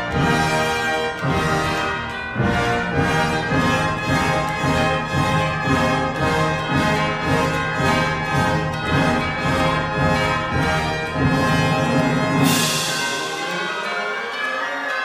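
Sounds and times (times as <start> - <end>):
orchestral music with brass: 0.0 - 15.0.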